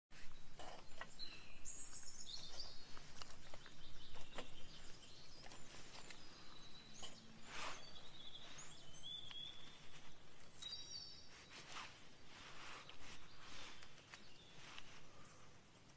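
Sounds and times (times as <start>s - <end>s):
songbirds chirping: 0.1s - 15.9s.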